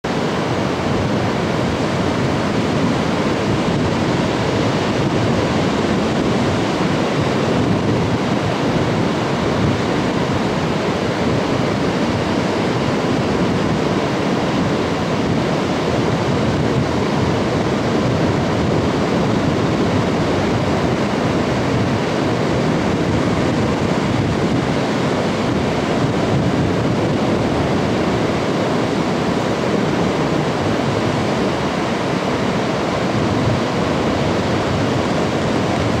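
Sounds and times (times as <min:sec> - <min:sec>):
ocean surf breaking on beach: 0:00.0 - 0:36.0
wind on microphone: 0:00.0 - 0:36.0.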